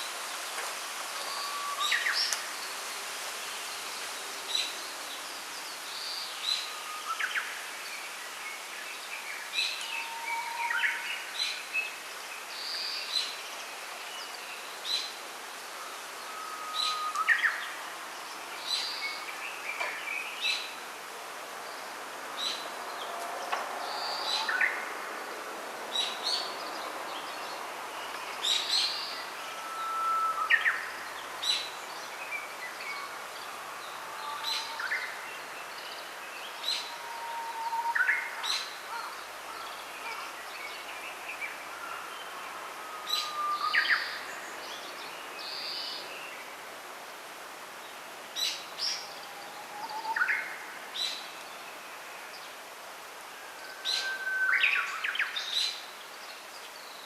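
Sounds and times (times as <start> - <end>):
faint steady hiss: 0.0 - 57.0
songbirds chirping: 0.0 - 57.0.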